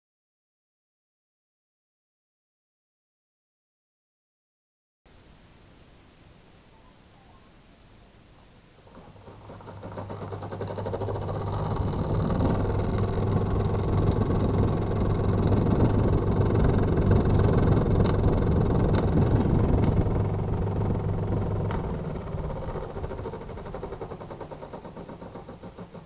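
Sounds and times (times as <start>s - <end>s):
air conditioner humming: 5.1s - 26.0s.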